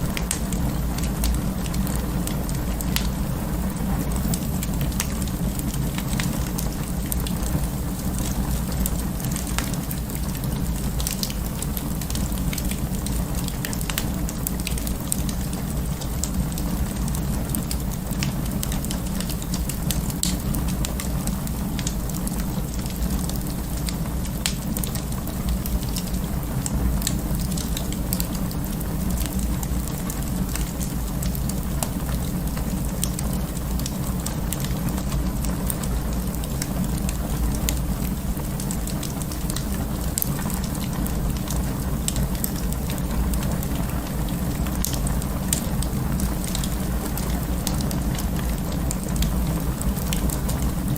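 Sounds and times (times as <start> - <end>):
fire low rumble: 0.0 - 50.9
wood fire crackling and popping: 0.0 - 50.9.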